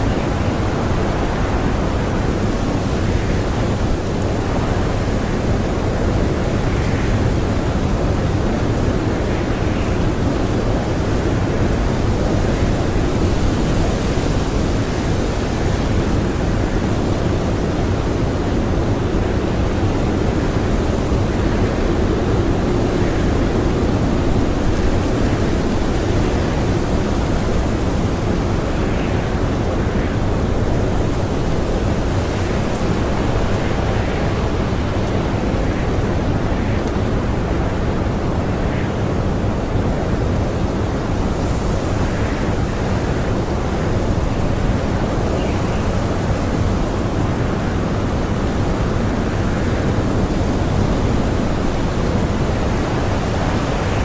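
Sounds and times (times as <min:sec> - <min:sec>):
blizzard wind howling: 0:00.0 - 0:54.0.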